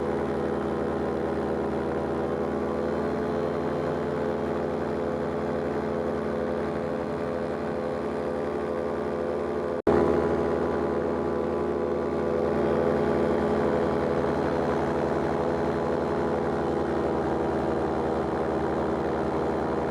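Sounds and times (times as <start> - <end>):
paramotor engine drone: 0.0 - 19.9.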